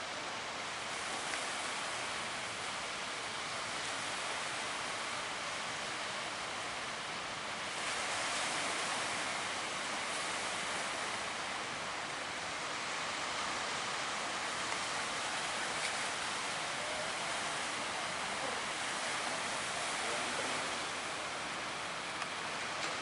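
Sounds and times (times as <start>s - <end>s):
waves breaking: 0.0s - 23.0s.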